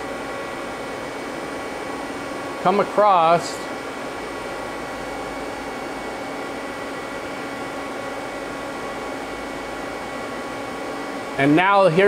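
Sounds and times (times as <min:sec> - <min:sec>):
machinery and fans humming: 0:00.0 - 0:12.0.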